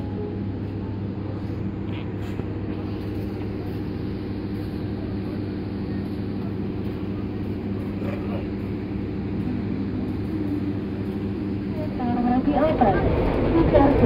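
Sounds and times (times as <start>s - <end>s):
diesel train engines idling: 0.0s - 14.0s.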